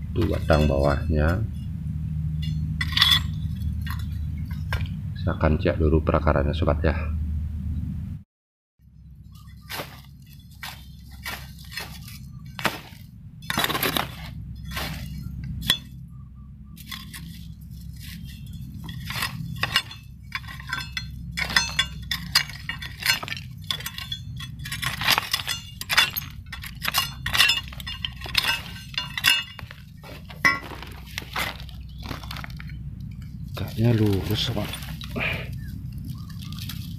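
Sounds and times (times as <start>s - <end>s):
stones and rubble clinking: 0.2s - 1.5s, 2.4s - 4.8s, 9.4s - 16.0s, 16.8s - 36.9s.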